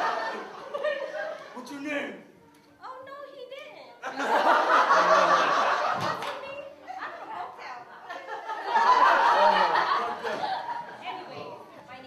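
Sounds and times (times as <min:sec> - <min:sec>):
audience laughing and chattering: 0:00.0 - 0:02.0, 0:04.0 - 0:12.0.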